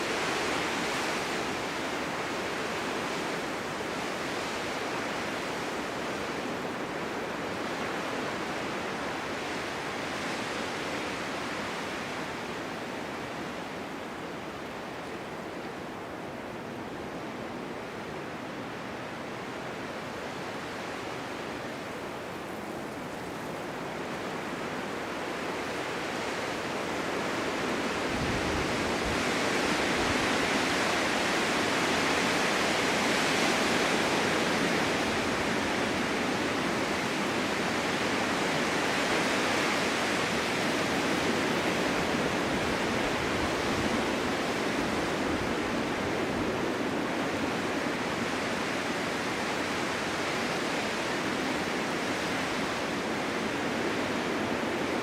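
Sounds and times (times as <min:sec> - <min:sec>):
strong wind blowing: 0:00.0 - 0:55.0.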